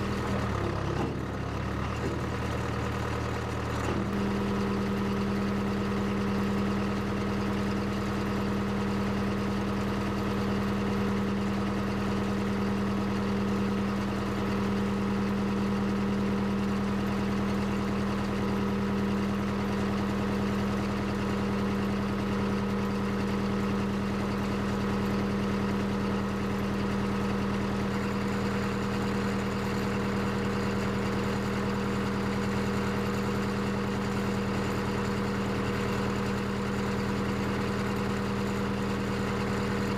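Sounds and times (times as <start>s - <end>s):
backhoe engine droning: 0.0s - 39.9s.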